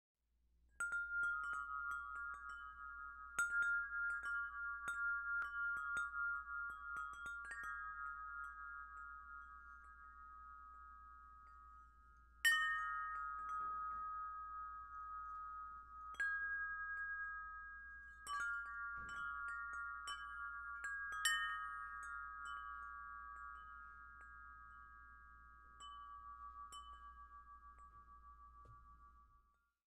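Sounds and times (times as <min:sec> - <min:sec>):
metal wind chime ringing: 0:00.8 - 0:29.8.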